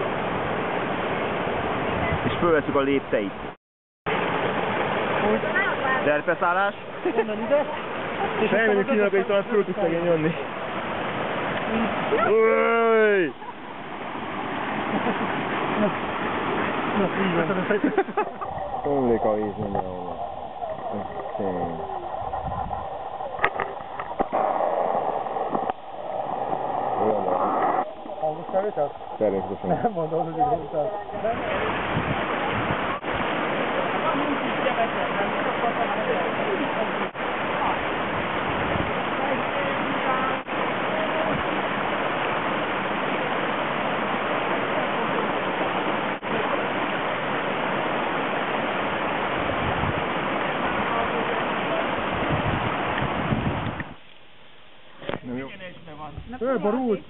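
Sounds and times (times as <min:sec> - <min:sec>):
stream rushing over rocks: 0:00.0 - 0:03.5, 0:04.1 - 0:57.0.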